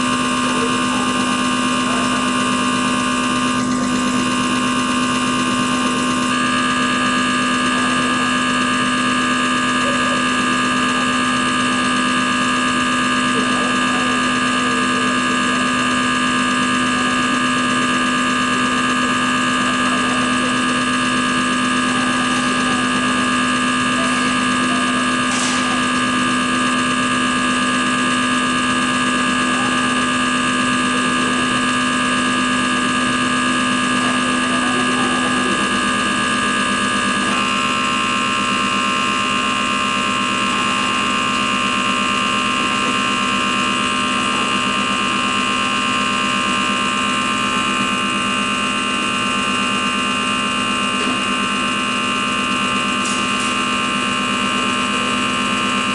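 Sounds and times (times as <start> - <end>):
test bench motor hum and whine: 0.0 - 55.9.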